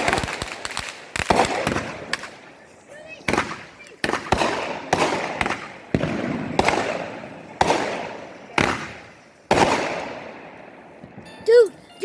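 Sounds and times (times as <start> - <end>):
firework bangs: 0.0 - 11.5
firework crackle: 0.0 - 11.9.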